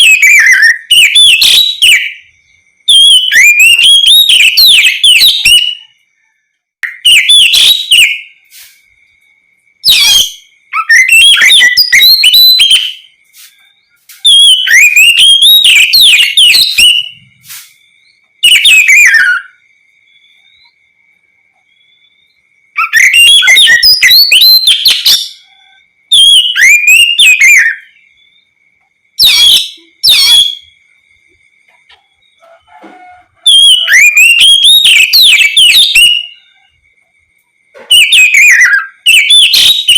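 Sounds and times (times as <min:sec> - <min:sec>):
bird singing whistled phrases: 0:00.0 - 0:06.0, 0:06.8 - 0:08.9, 0:09.8 - 0:20.8, 0:21.6 - 0:28.6, 0:29.2 - 0:30.8, 0:33.4 - 0:36.7, 0:37.8 - 0:39.9.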